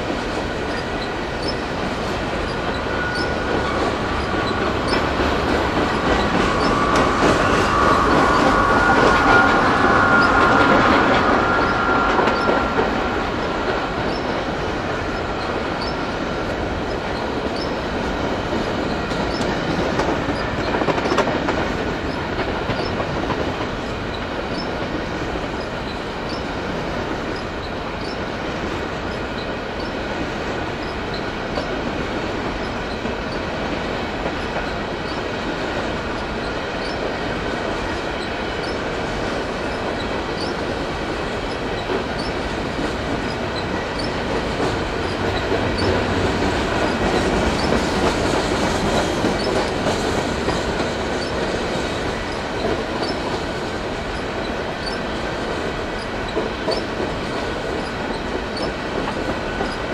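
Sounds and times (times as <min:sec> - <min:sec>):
high wheel squeal: 0:00.0 - 0:30.0, 0:32.4 - 0:59.9
freight train rolling on rails: 0:00.0 - 0:59.9.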